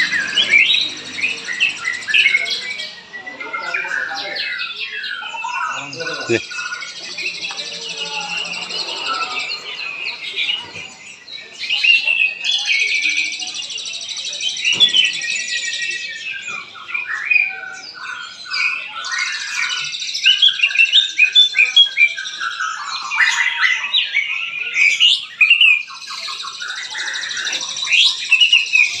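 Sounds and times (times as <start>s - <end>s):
many songbirds singing: 0.0s - 29.0s.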